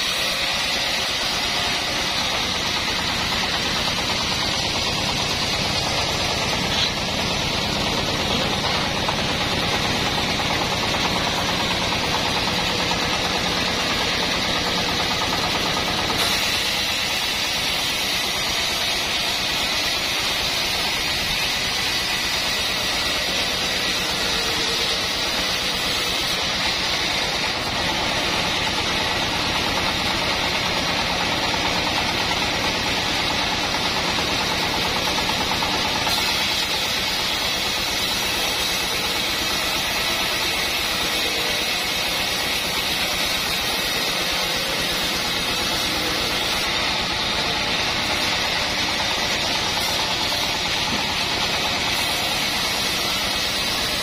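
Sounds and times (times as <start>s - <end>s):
band sawmill droning: 0.0s - 54.0s.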